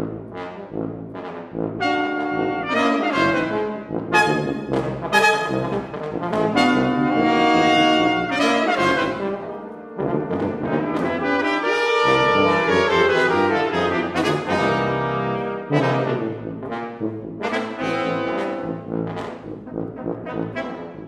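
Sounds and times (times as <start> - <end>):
brass quintet playing chords: 0.0 - 21.0.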